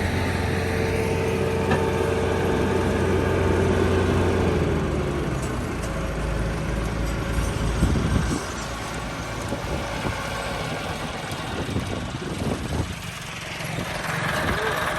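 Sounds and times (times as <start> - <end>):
diesel tractor engine running: 0.0 - 14.9.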